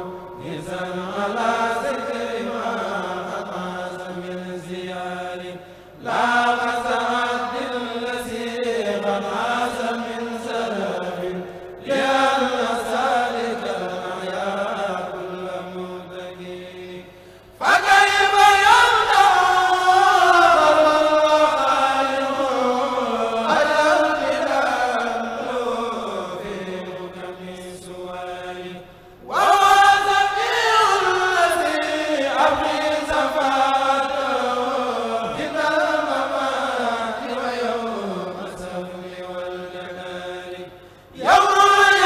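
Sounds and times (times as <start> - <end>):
group of men chanting: 0.0 - 16.8, 17.6 - 40.6, 41.2 - 42.0.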